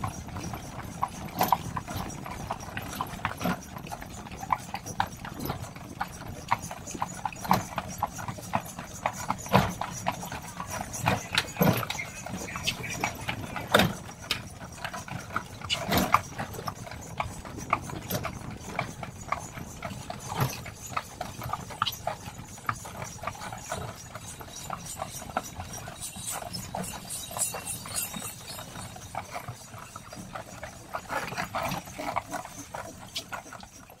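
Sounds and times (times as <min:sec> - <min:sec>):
horse hooves clip-clopping: 0:00.0 - 0:34.0.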